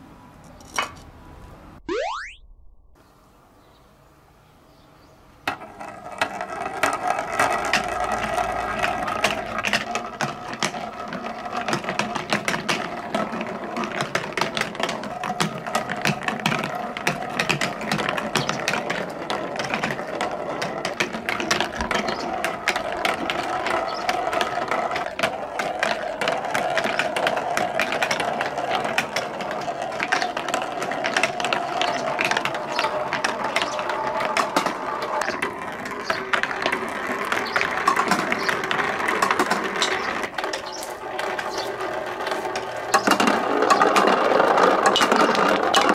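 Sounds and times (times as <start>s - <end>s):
balls clicking and clattering: 5.4s - 45.9s
plastic balls rolling down tracks: 5.4s - 45.9s.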